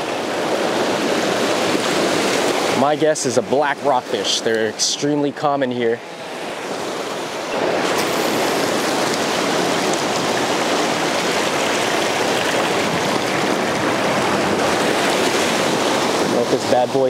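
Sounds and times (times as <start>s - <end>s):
ocean surf breaking over rocks: 0.0s - 17.0s.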